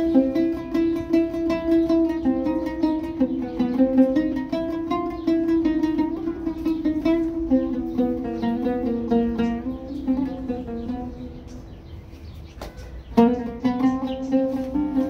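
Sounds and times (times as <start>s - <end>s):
oud plucked notes: 0.0s - 15.0s
shruti box drone: 0.0s - 15.0s.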